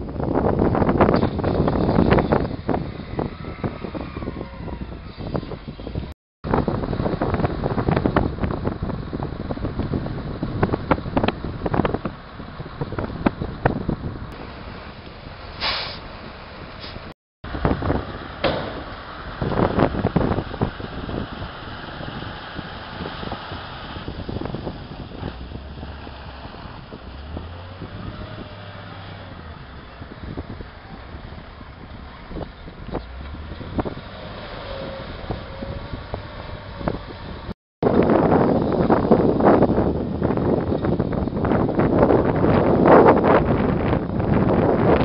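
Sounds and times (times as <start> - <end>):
wind buffeting microphone: 0.0 - 45.0
truck engine running: 5.2 - 45.0.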